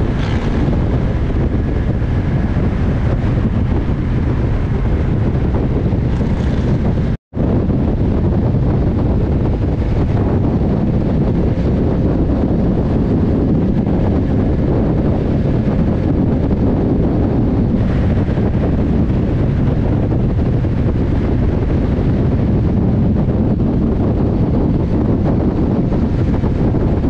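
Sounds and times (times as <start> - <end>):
motorcycle and road rumble: 0.0 - 27.0
wind rushing over microphone: 0.0 - 27.0.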